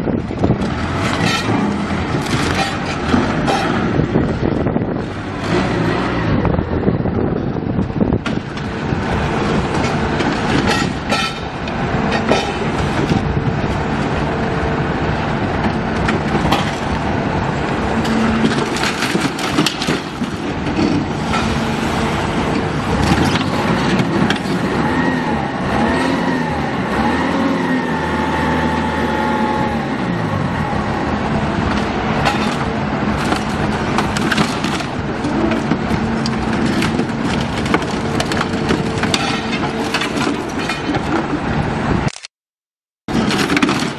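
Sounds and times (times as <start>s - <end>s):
heavy machinery engine clattering: 0.0s - 42.3s, 43.1s - 43.9s.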